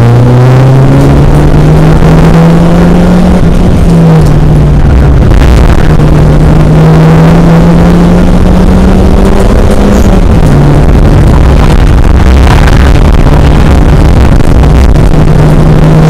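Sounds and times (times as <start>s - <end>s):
car engine revving: 0.0s - 16.0s
road and wind noise: 0.0s - 16.0s.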